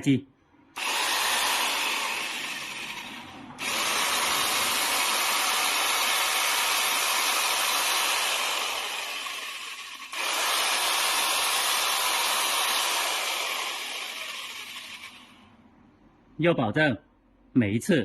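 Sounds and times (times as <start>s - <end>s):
electric drill motor running: 0.8s - 15.4s.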